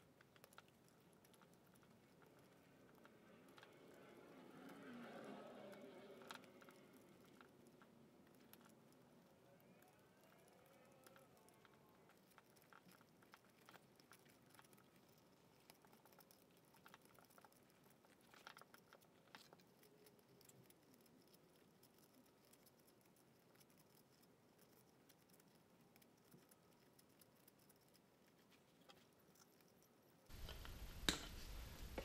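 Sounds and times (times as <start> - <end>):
wire being unwound ticking: 0.0 - 32.0.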